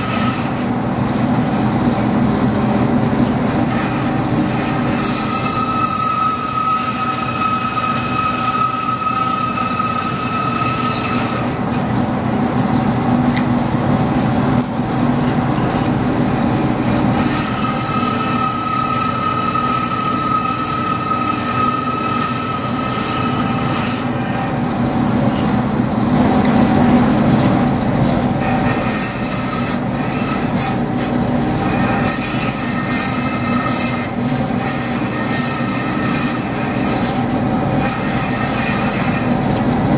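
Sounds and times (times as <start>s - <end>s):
bandsaw cutting metal: 0.0s - 39.9s.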